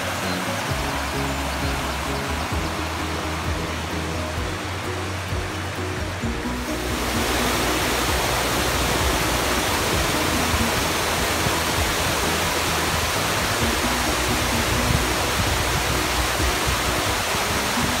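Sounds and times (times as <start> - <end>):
water rushing down a channel: 0.0 - 18.0.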